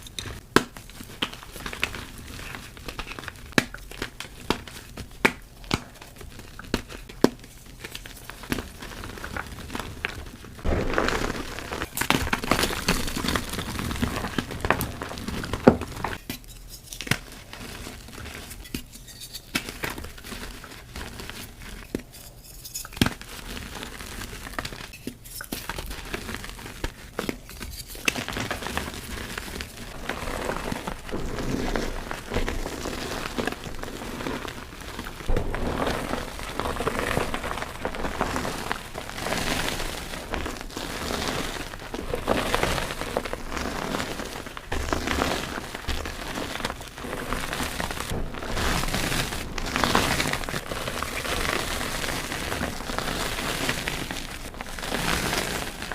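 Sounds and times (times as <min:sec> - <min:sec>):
chalk blocks crunching by hand: 0:00.0 - 0:16.4, 0:23.0 - 0:55.9.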